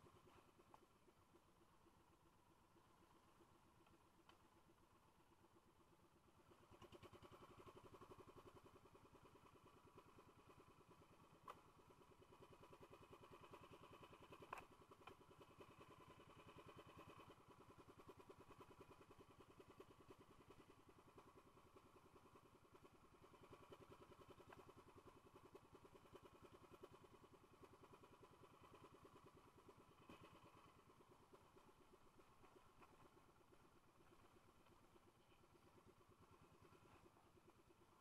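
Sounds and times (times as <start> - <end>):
small boat engine running: 6.4 - 38.0.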